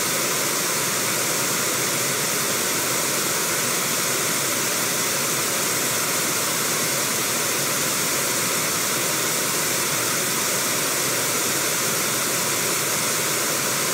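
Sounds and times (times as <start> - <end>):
river water rushing over rapids: 0.0 - 13.9.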